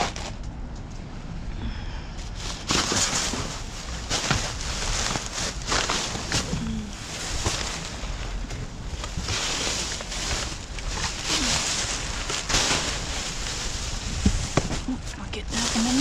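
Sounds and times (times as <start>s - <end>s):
plastic bags rustling: 0.0s - 0.4s, 2.2s - 16.0s.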